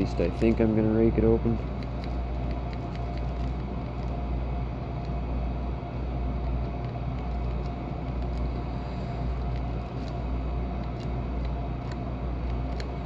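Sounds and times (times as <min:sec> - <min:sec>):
furnace rumbling and humming: 0:00.0 - 0:13.0.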